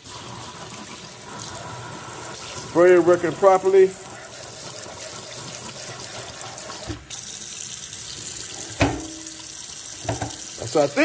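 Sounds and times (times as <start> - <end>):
water running into sink: 0.0 - 11.0.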